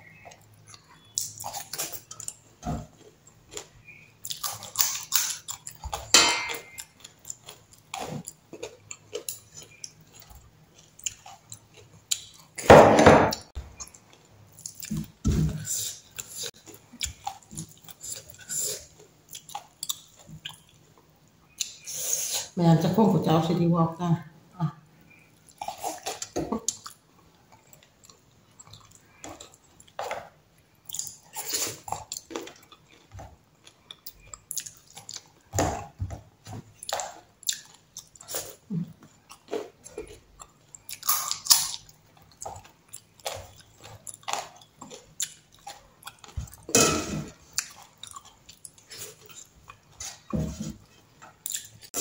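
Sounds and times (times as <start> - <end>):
person chewing with wet smacks: 0.0 - 12.6, 13.4 - 21.9, 25.1 - 52.0.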